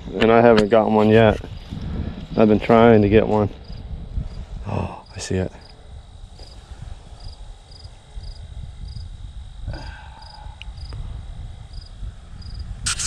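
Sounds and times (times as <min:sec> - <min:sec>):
steady low rumble: 0:00.0 - 0:12.9
cricket chirping: 0:00.0 - 0:13.0.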